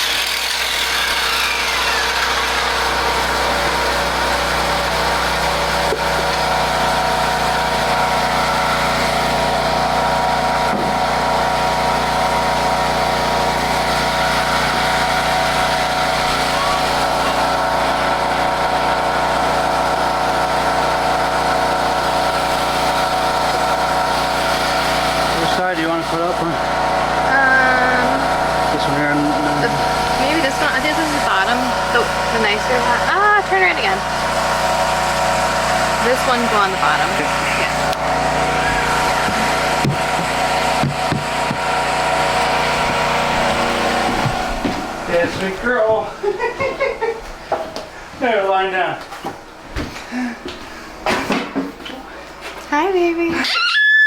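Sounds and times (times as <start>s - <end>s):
power tool whine winding down: 0.0s - 46.4s, 53.3s - 54.0s
small engine humming: 0.0s - 47.1s.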